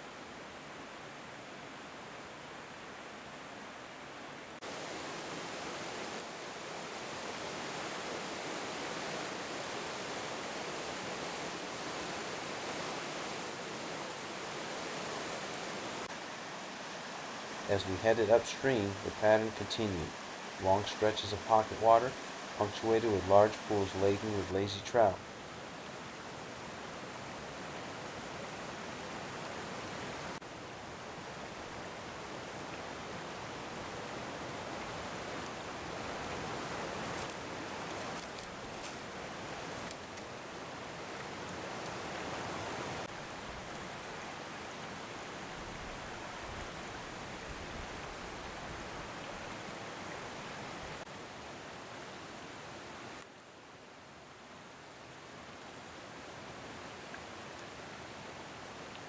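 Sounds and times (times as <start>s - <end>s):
creek water rushing over rocks: 0.0s - 59.0s.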